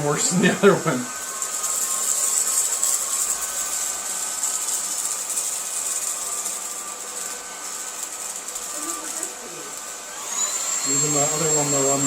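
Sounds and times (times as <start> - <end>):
cordless vacuum cleaner running: 0.0 - 12.0.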